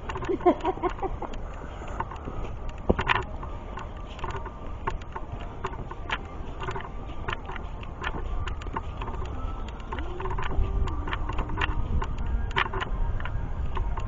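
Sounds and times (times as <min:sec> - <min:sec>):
low wind rumble on microphone: 0:00.0 - 0:14.0.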